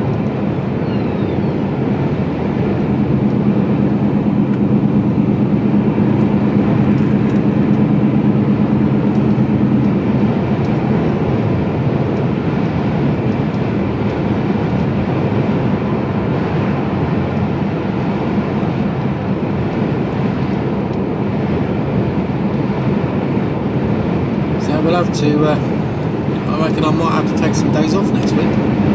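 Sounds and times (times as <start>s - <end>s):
road noise rumble: 0.0s - 28.9s
truck engine hum in cab: 0.0s - 28.9s.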